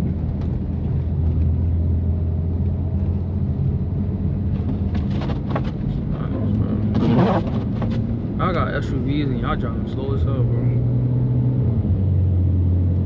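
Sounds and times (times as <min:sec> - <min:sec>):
car engine droning: 0:00.0 - 0:13.0
tyre and road noise: 0:00.0 - 0:13.0.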